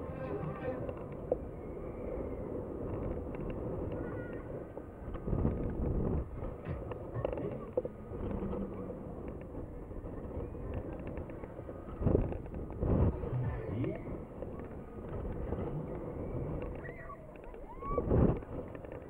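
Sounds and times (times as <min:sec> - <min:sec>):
ride mechanical rumble: 0:00.0 - 0:19.0
wind rushing over microphone: 0:00.0 - 0:19.0.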